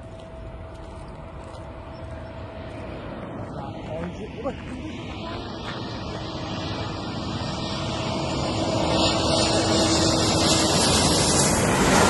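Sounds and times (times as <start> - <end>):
jet airliner engine roar: 0.0 - 12.0.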